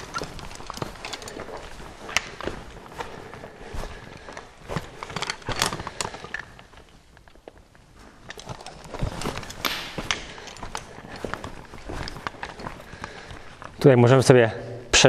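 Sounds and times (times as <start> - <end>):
footsteps on rocky rubble: 0.0 - 14.0.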